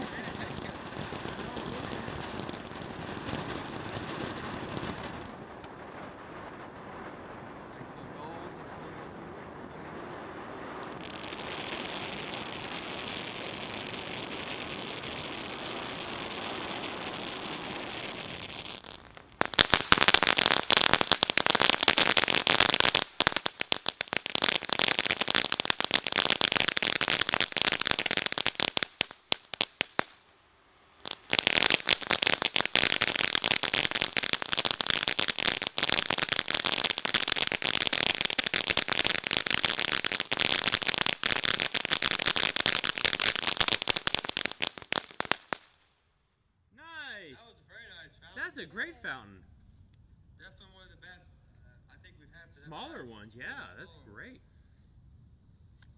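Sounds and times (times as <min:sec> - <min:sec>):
firework fountain hissing: 0:00.0 - 0:45.8
firework crackling: 0:00.0 - 0:46.1.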